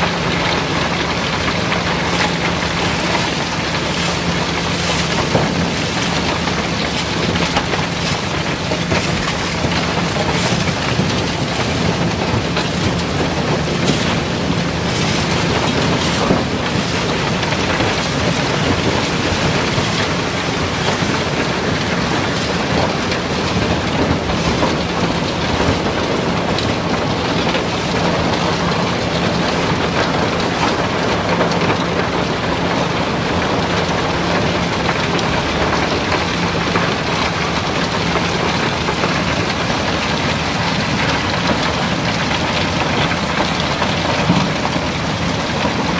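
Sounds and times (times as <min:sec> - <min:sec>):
gravel pouring and clattering: 0:00.0 - 0:45.9
machine hum: 0:00.0 - 0:45.9.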